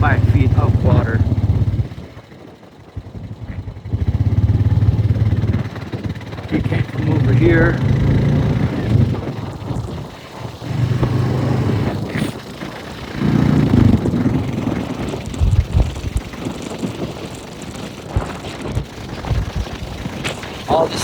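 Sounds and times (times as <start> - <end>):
rough rumbling noise: 0.0 - 2.2, 2.9 - 21.0
vehicle engine running: 0.0 - 21.0.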